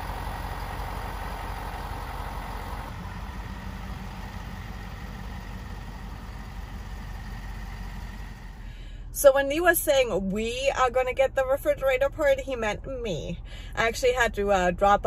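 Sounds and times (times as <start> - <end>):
truck engine running: 0.0 - 13.8.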